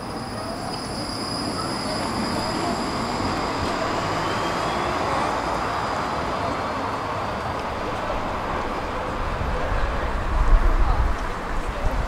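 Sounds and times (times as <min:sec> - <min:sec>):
city street noise: 0:00.0 - 0:12.0
electric tram rolling along track: 0:00.0 - 0:12.0.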